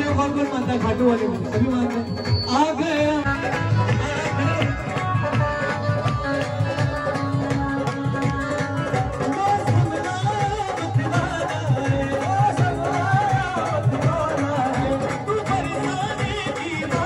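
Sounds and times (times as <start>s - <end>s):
hand drum beat: 0.0s - 17.0s
keyboard: 0.0s - 17.0s
man singing into a microphone: 0.0s - 17.0s.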